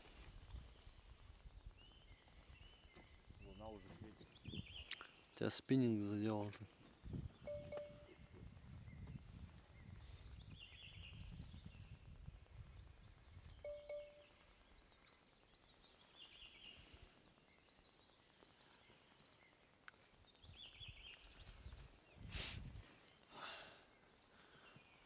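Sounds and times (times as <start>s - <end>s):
faint birdsong chirping: 0.1s - 25.0s.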